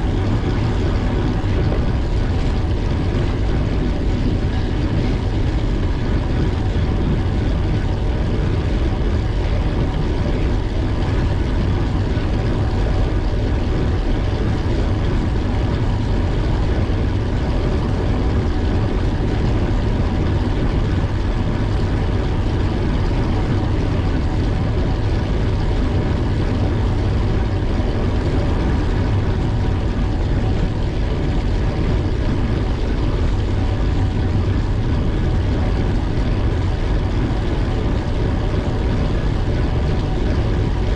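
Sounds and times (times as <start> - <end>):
wind rush on microphone: 0.0 - 40.9.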